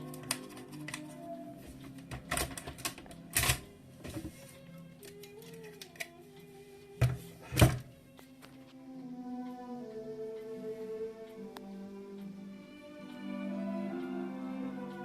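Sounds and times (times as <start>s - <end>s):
slow string music: 0.0s - 15.0s.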